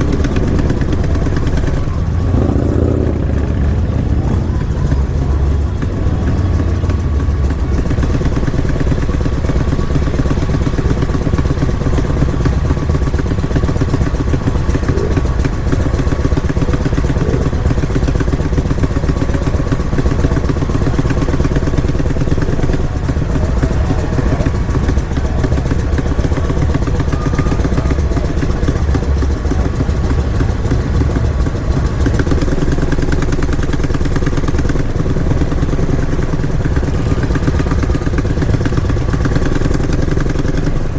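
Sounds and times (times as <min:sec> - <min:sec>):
motorcycle engines running: 0:00.0 - 0:40.9.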